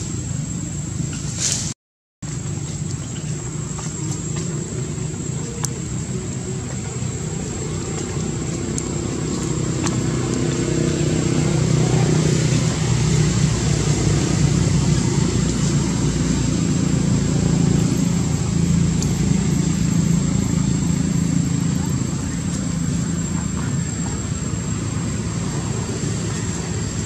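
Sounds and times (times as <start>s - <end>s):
high-pitched whine: 0.0s - 27.0s
motor engine droning: 2.2s - 27.0s.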